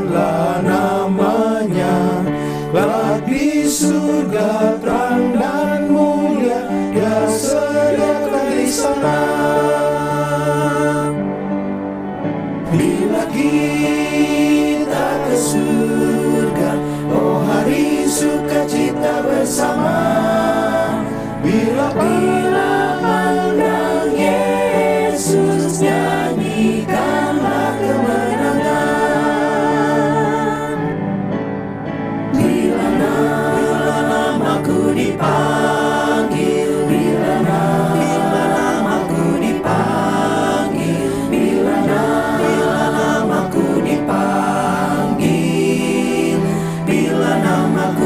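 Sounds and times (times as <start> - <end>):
choir singing a hymn: 0.0 - 48.0.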